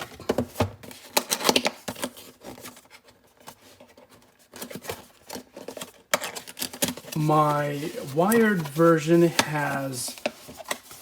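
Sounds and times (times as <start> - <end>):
packaging clicks and crinkles: 0.8 - 11.0.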